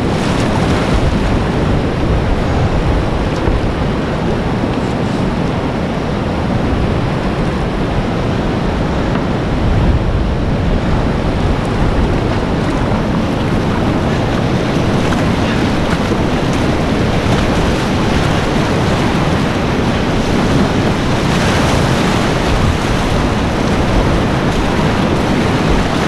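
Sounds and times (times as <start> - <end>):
whitewater rapid rushing: 0.0 - 26.0.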